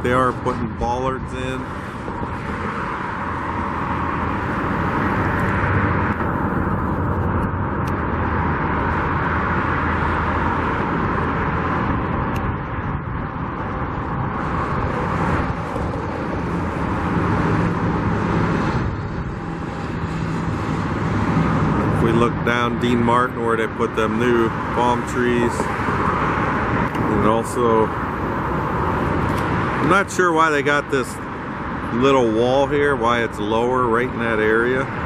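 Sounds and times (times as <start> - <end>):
road traffic: 0.0 - 35.0.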